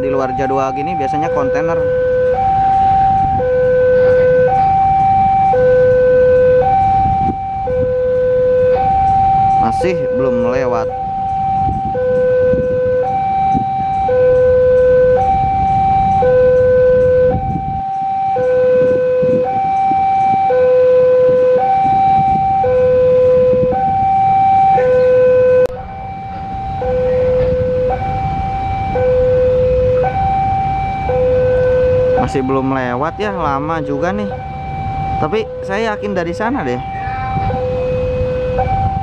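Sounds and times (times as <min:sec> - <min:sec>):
level crossing two-tone alarm: 0:00.0 - 0:39.0.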